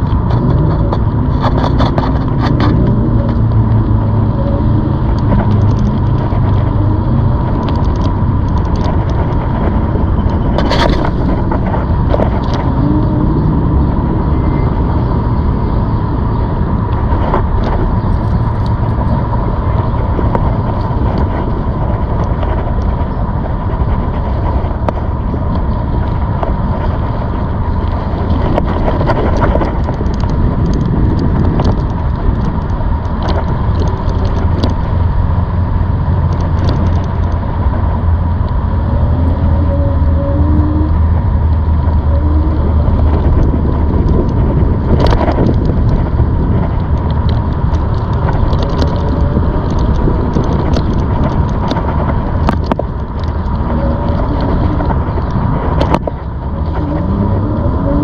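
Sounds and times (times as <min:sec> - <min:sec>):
wheels rolling noise: 0:00.0 - 0:58.0
wind rumble on microphone: 0:00.0 - 0:58.0.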